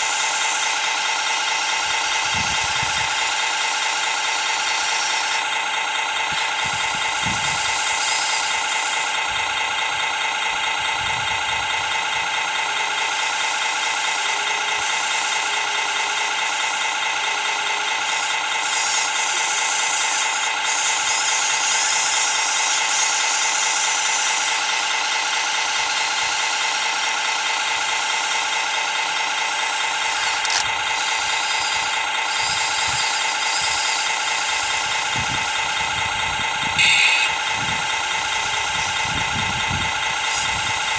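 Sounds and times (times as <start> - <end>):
model excavator motor whine: 0.0 - 40.9.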